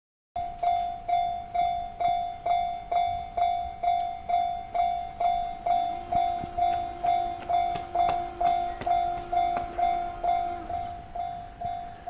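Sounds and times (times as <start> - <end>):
level crossing bell dinging: 0.4 - 12.0
steady low tone: 0.4 - 12.0.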